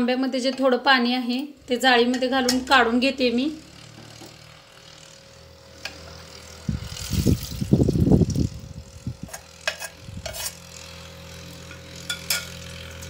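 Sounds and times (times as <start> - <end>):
steady low hum: 0.8 - 13.0.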